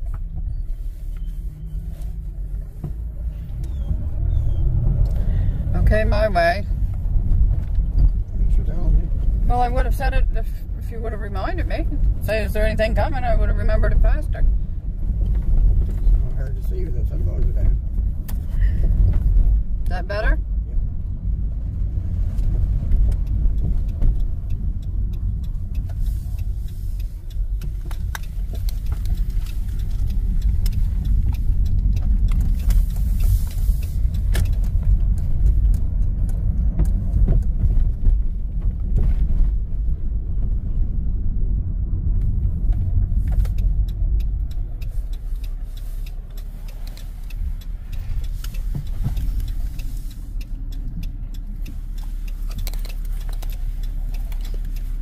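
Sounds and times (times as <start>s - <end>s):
van engine and road rumble: 0.0s - 55.0s.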